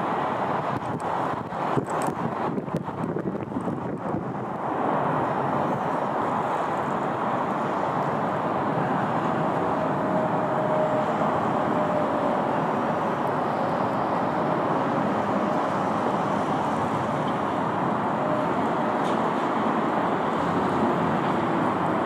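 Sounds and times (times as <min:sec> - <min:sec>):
propeller plane engines landing: 0:00.0 - 0:22.0.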